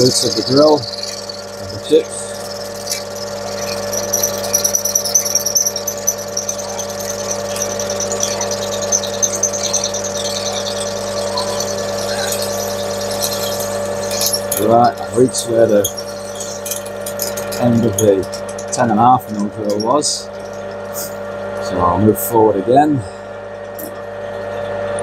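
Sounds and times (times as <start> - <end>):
drill cutting brass: 0.0 - 23.2
metal lathe humming: 0.0 - 25.0.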